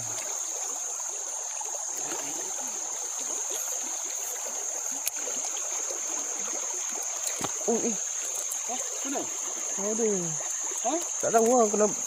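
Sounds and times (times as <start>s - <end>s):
high-pitched insect drone: 0.0s - 12.0s
stream water running: 0.0s - 12.0s.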